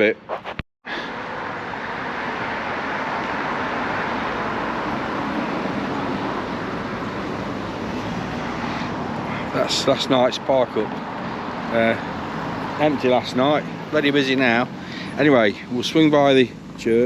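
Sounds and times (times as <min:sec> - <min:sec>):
rushing road traffic noise: 0:00.0 - 0:17.0.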